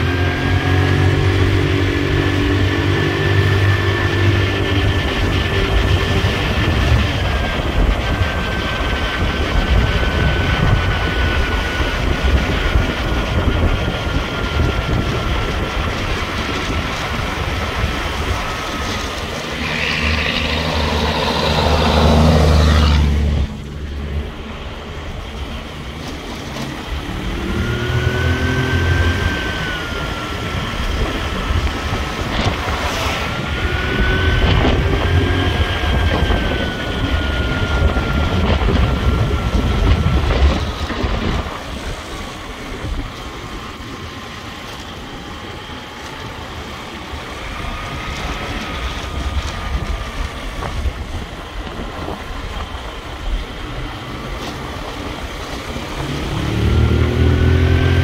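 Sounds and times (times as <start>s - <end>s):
road noise: 0.0s - 58.0s
rush of noise: 0.0s - 58.0s
thin whine: 0.0s - 58.0s
vehicle engine rumble: 0.0s - 58.0s.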